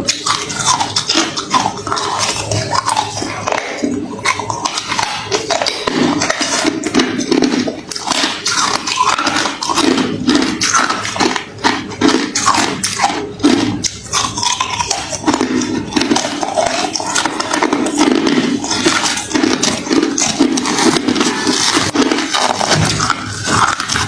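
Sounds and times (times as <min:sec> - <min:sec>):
chewing crushed ice: 0:00.0 - 0:24.0.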